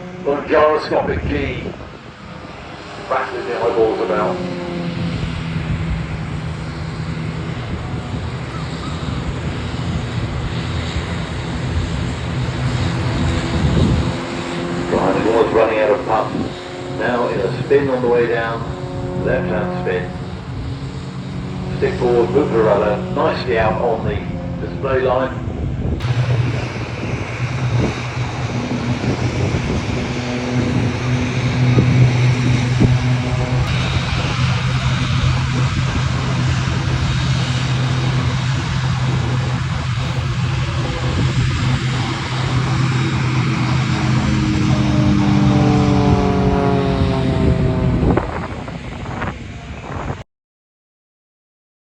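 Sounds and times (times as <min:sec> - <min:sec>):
propeller aircraft engine droning: 0:00.0 - 0:50.2.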